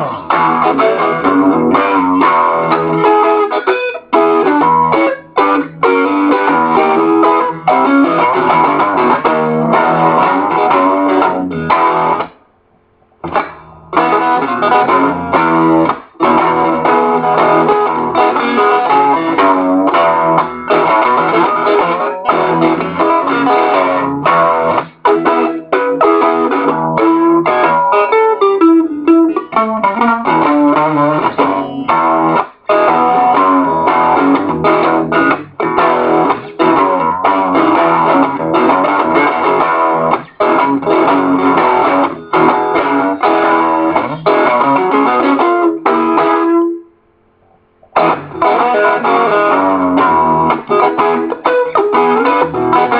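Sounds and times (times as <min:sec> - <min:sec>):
distorted electric guitar blues boogie: 0:00.0 - 0:12.4, 0:13.2 - 0:46.8, 0:47.8 - 0:52.9.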